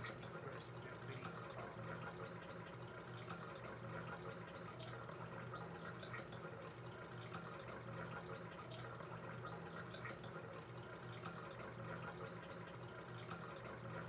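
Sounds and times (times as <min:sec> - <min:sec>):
small ticks: 0:00.0 - 0:14.0.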